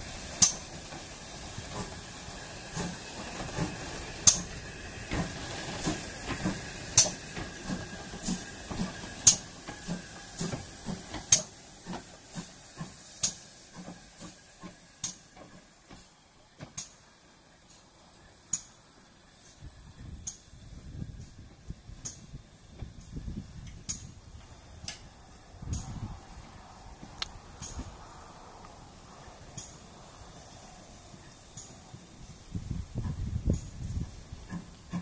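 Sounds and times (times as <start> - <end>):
wheels clicking on rails: 0.0 - 18.8, 19.4 - 35.0
steam hiss: 0.0 - 35.0.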